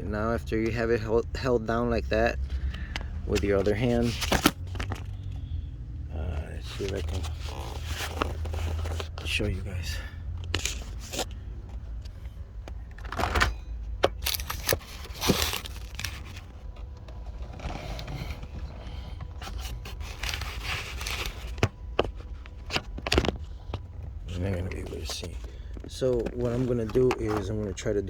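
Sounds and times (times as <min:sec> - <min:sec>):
plastic scraping and rubbing: 0:02.2 - 0:05.4, 0:06.3 - 0:28.0.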